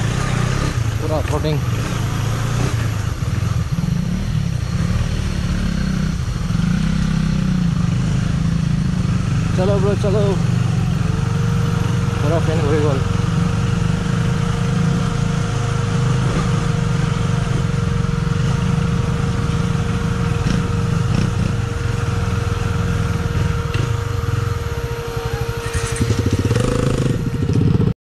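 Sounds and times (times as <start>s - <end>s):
steady whining tone: 0.0s - 27.9s
motorcycle engine running: 0.0s - 28.0s.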